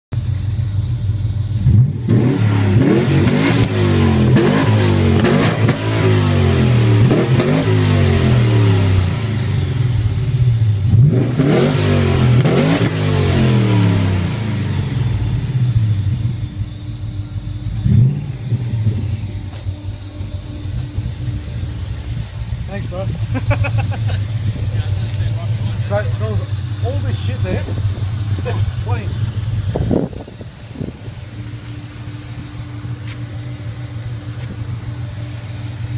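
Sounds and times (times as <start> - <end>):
car engine idling and revving: 0.0 - 35.9.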